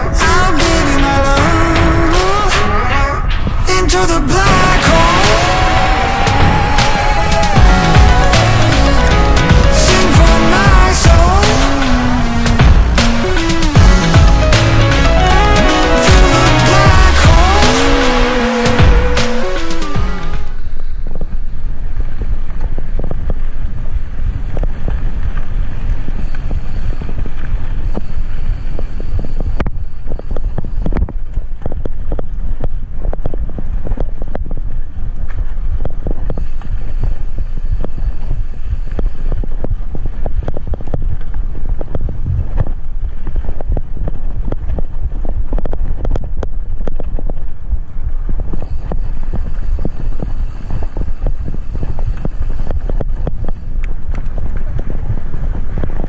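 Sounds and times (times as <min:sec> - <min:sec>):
tyres on dirt road: 0:00.0 - 0:56.0
wind buffeting microphone: 0:00.0 - 0:56.0.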